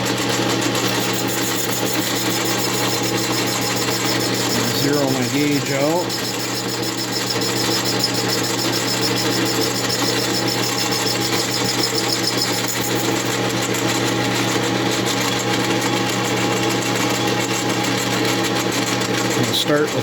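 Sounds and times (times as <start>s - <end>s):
metal lathe motor hum and whine: 0.0s - 20.0s.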